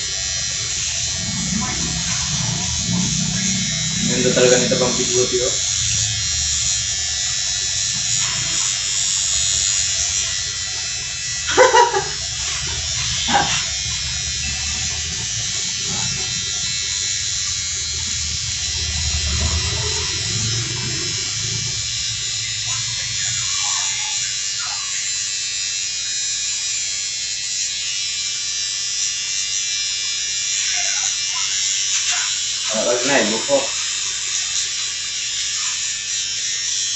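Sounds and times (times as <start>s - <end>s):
electric hair trimmer buzzing: 0.0s - 36.9s.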